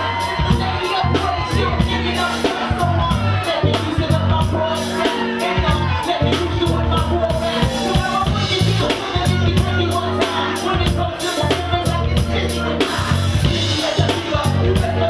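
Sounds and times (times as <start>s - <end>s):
heavy bass beat: 0.0s - 15.0s.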